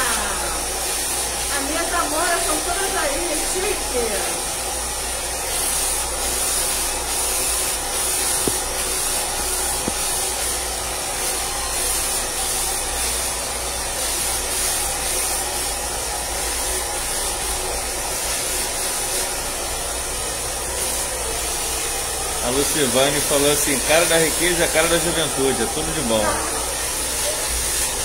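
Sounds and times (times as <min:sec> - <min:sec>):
hair dryer blowing air: 0:00.0 - 0:28.0.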